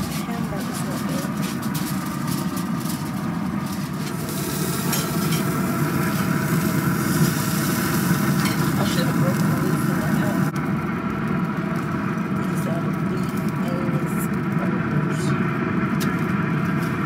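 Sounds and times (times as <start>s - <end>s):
hot dogs sizzling on a grill: 0.0s - 17.0s
steady low rumble: 0.0s - 17.0s.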